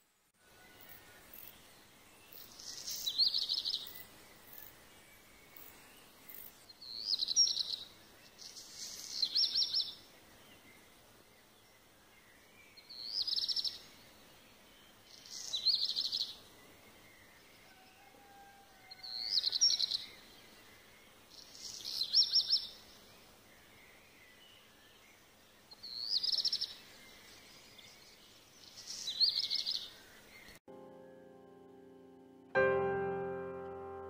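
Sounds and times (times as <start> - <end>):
faint background hiss: 0.0 - 34.0.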